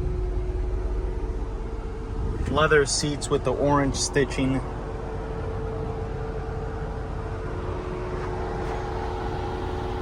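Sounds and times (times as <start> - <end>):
vehicle idling: 0.0 - 10.0.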